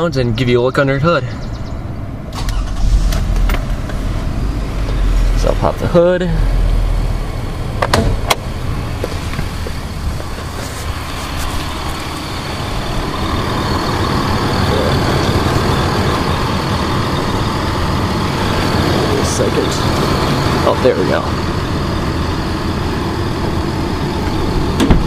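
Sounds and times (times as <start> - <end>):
car engine idling: 1.1 - 25.0.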